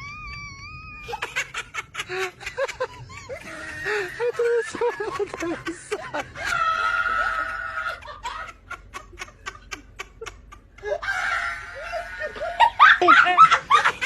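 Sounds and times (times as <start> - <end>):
person laughing: 0.0 - 14.0.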